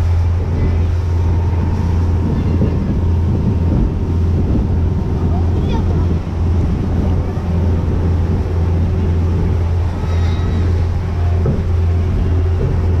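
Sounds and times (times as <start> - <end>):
motorboat engine drone: 0.0 - 13.0
rushing wake: 0.0 - 13.0
wind: 0.0 - 13.0.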